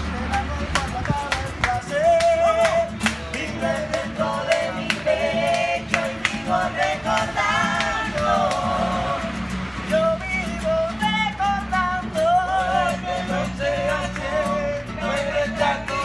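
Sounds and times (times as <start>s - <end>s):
guitar: 0.0s - 16.0s.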